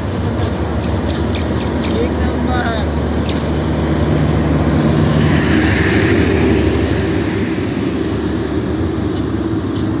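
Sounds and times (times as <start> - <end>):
passenger train rumbling on track: 0.0 - 10.0.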